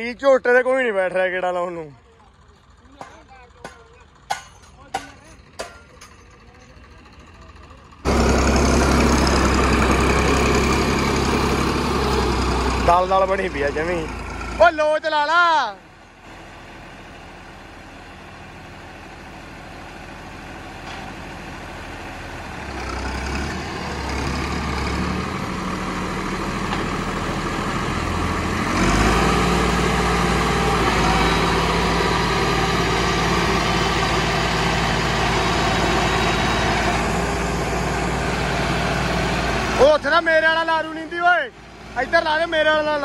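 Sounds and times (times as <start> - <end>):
diesel tractor engine under load: 0.0 - 43.0.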